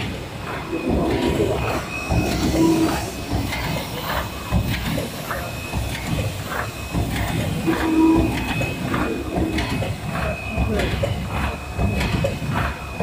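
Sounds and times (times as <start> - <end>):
machine clattering: 0.0 - 13.0.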